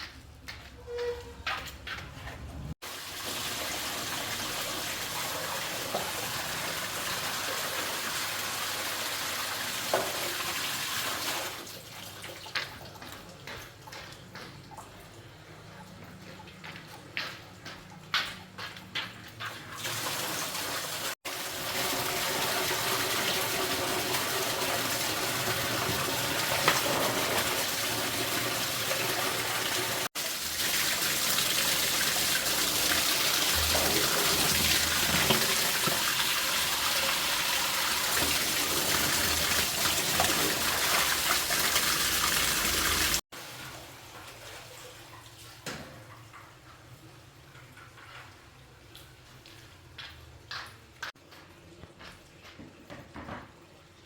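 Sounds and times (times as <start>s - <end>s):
water running: 2.8s - 51.2s.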